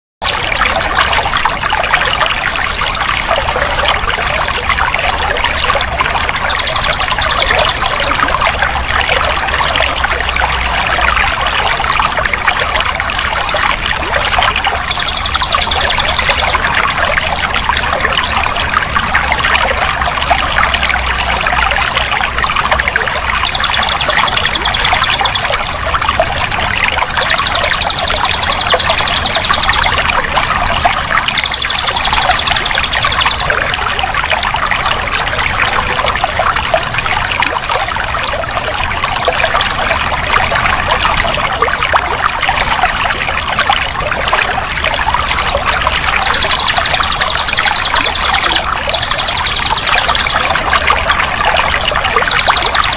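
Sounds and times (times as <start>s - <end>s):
water running and trickling: 0.2s - 52.9s.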